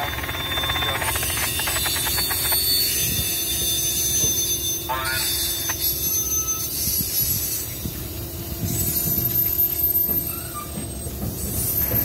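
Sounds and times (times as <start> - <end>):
wheel squeal: 0.0 - 7.8, 8.6 - 12.0
train wheels rumbling on rails: 0.0 - 12.0.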